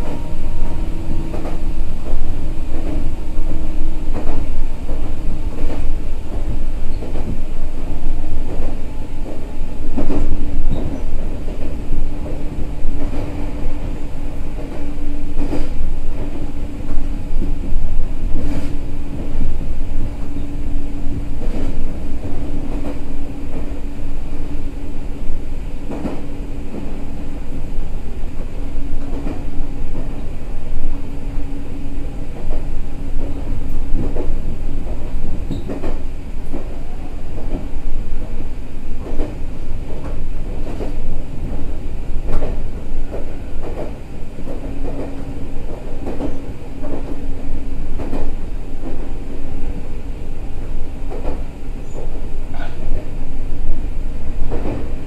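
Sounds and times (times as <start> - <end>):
electric train rumble and motor hum: 0.0 - 55.0.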